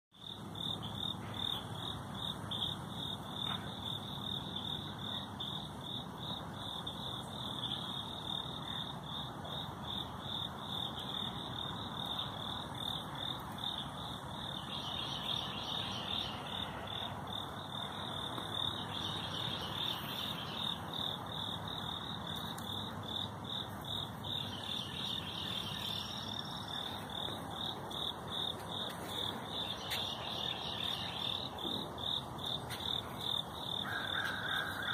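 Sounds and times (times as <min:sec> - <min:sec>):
faint low background noise: 0:00.2 - 0:34.9
insects chirping: 0:00.2 - 0:34.9.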